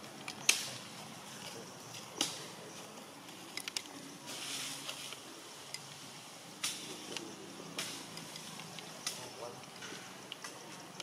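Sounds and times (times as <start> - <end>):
soft hissing rustle: 0.0 - 11.0.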